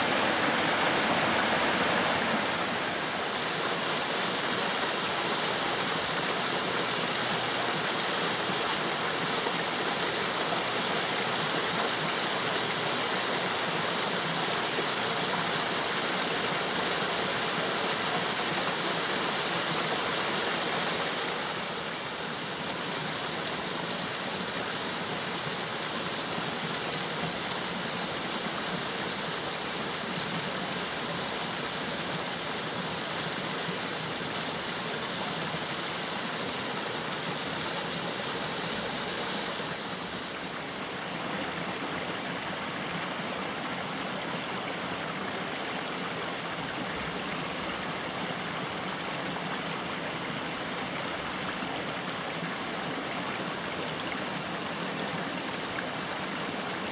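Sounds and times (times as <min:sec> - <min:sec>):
water flowing over a cascade: 0:00.0 - 0:56.9.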